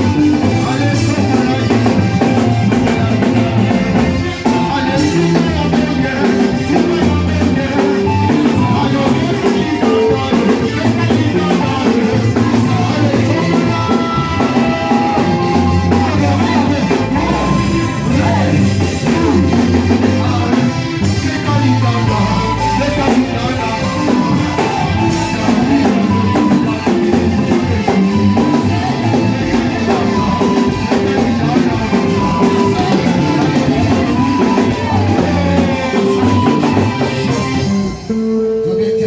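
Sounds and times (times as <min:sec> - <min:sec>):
drum kit: 0:00.0 - 0:39.0
electric guitar: 0:00.0 - 0:39.0
worship band playing: 0:00.0 - 0:39.0.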